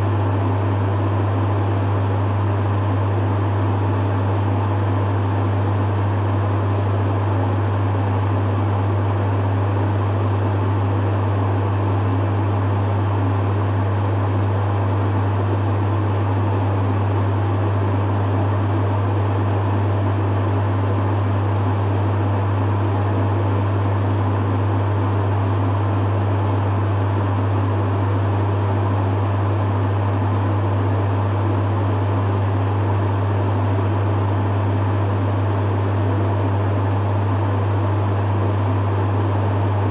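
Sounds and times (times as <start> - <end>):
dehumidifier compressor hum: 0.0 - 39.9
dehumidifier fan rushing: 0.0 - 39.9.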